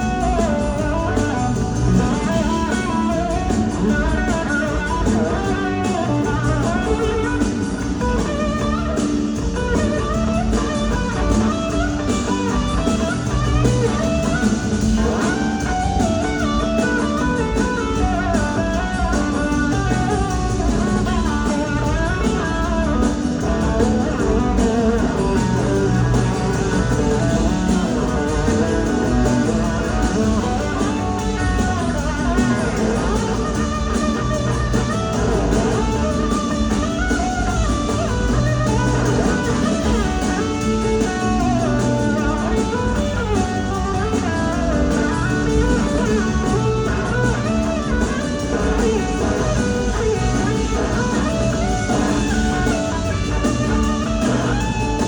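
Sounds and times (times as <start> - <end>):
blues-rock band playing: 0.0 - 55.0
electric slide guitar: 0.0 - 55.0.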